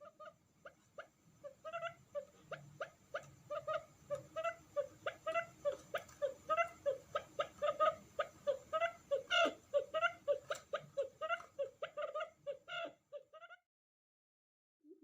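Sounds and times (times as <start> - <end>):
quail calling: 0.0 - 13.6.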